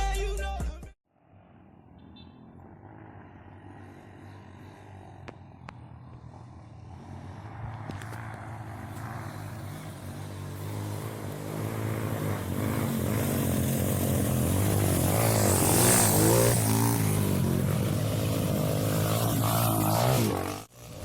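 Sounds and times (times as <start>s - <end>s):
off-road vehicle engine revving: 2.8s - 21.0s.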